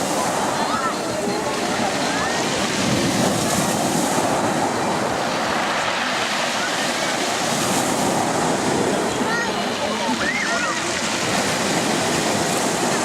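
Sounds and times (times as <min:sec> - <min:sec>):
sea surf washing on shore: 0:00.0 - 0:13.0
wind buffeting microphone: 0:00.0 - 0:13.0.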